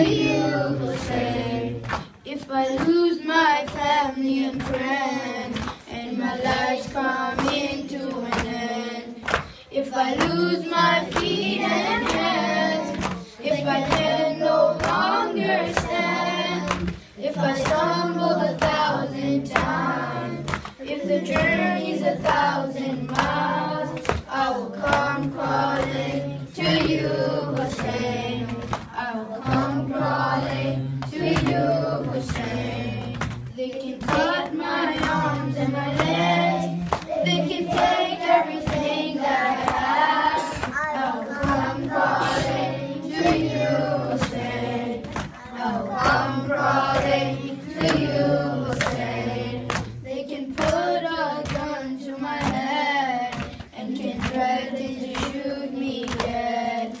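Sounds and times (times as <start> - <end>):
boys chanting a lament: 0.0 - 57.0.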